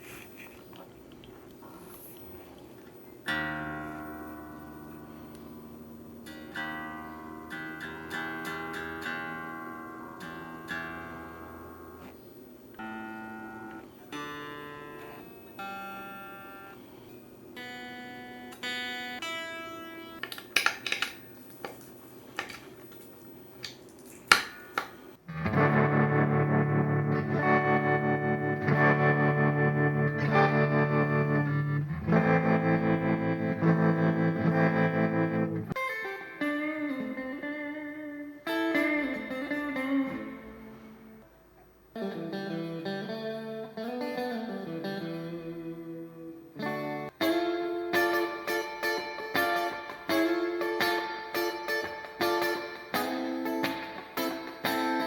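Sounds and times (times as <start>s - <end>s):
electric guitar playing: 3.2s - 23.0s, 25.2s - 55.0s.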